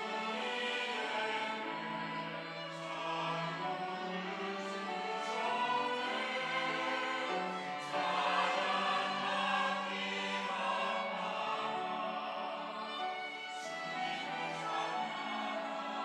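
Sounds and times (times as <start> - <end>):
choir singing an anthem: 0.0 - 16.0
instrumental accompaniment: 0.0 - 16.0.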